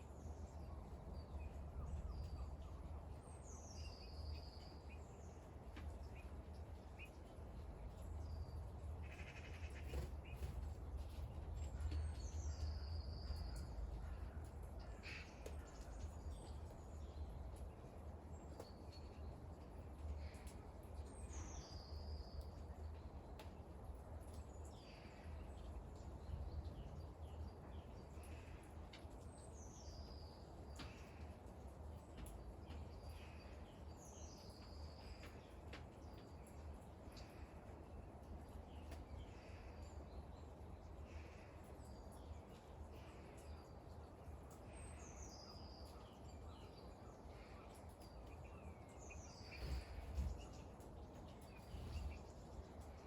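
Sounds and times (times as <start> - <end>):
rain drips ticking: 0.0 - 53.0.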